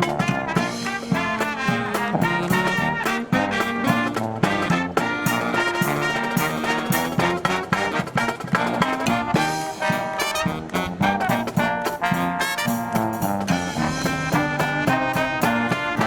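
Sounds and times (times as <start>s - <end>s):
marching brass band playing: 0.0s - 16.0s.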